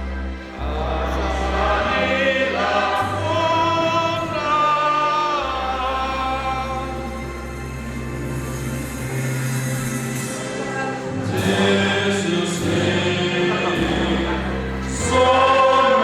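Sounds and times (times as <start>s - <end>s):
congregation singing a hymn: 0.0s - 8.4s, 9.4s - 16.0s
sustained low accompaniment: 0.0s - 16.0s.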